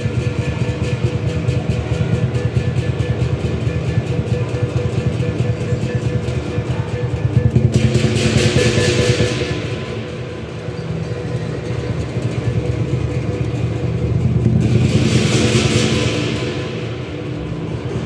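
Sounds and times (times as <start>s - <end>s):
drum rolling: 0.0s - 18.0s.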